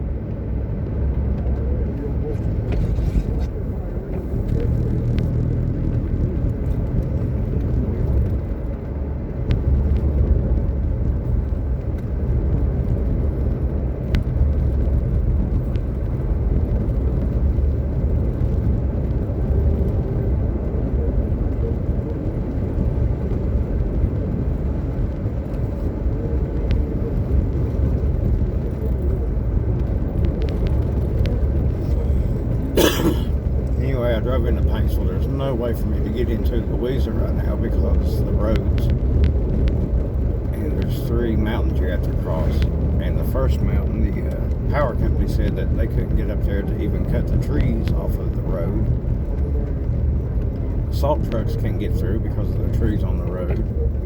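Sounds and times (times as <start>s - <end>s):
truck engine rumble: 0.0s - 54.0s
tyre road noise: 0.0s - 54.0s.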